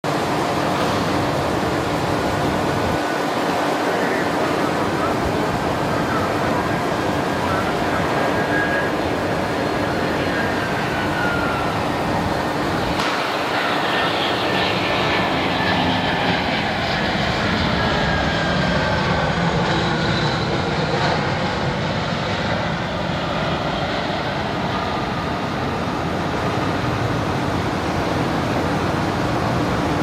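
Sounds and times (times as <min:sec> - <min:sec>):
jet engines with falling whine: 0:00.0 - 0:30.0.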